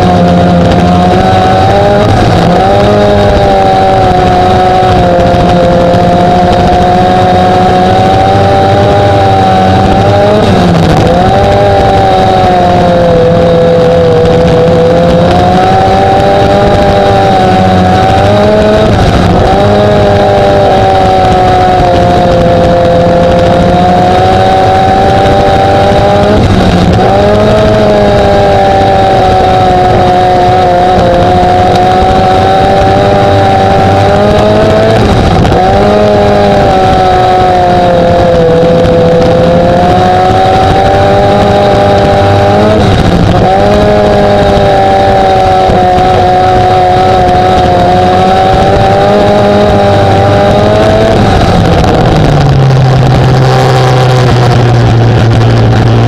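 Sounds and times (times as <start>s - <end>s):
racing engine running hard: 0.0s - 56.0s.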